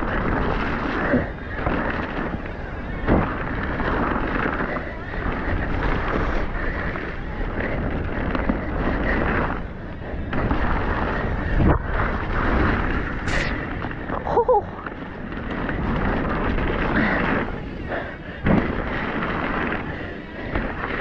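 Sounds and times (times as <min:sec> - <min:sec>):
bike rattling: 0:00.0 - 0:21.0
bike tyres on dirt trail: 0:00.0 - 0:21.0
wind on microphone: 0:00.0 - 0:21.0.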